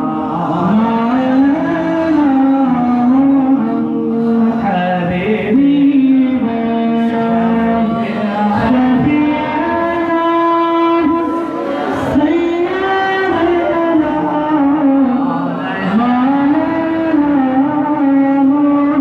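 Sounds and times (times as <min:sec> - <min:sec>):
man chanting through microphone: 0:00.0 - 0:19.0.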